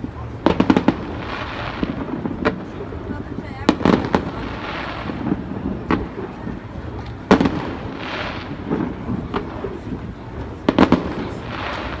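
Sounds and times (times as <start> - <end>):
fireworks bursting: 0.0 - 12.0
light fireworks pops: 0.0 - 12.0.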